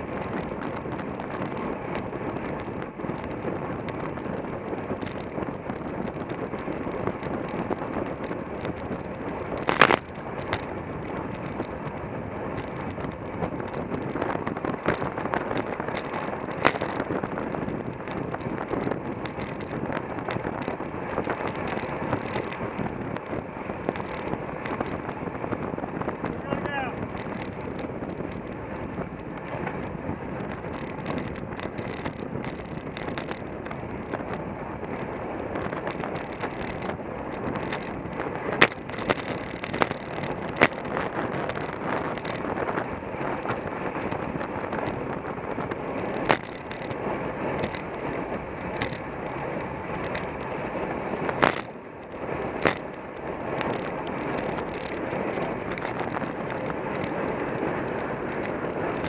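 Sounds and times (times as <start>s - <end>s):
bicycle clicks and knocks: 0.0s - 59.0s
tyre and wind noise rushing: 0.0s - 59.0s.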